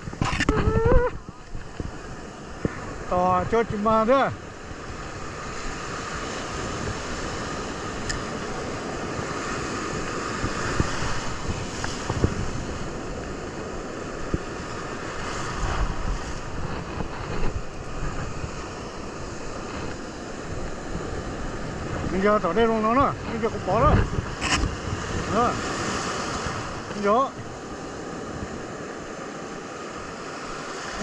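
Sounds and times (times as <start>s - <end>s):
ocean surf: 0.0s - 31.0s
wind buffeting microphone: 0.0s - 31.0s.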